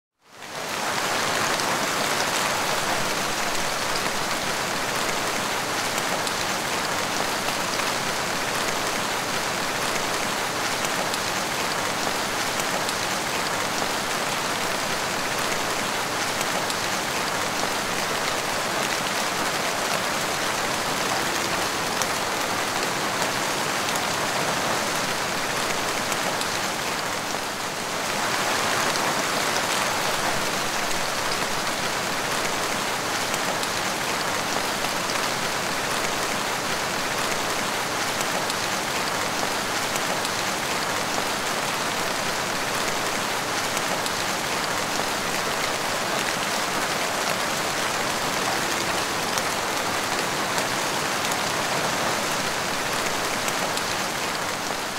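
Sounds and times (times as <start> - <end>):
rain on tiled floor: 0.1 - 54.9.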